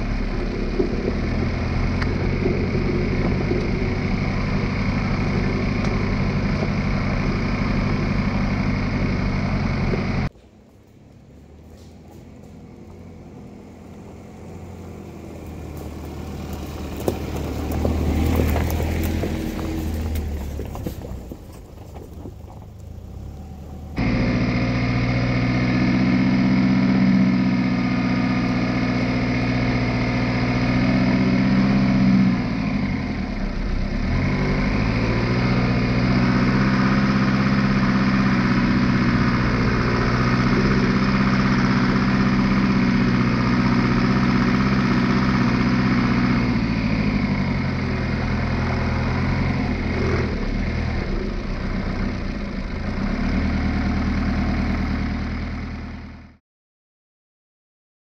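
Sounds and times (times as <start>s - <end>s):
car engine running: 0.0s - 56.4s.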